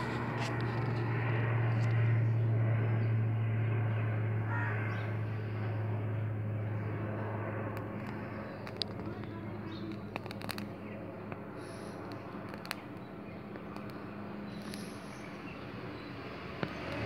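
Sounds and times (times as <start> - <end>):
low mechanical hum: 0.0 - 17.0
rushing background noise: 0.0 - 17.0.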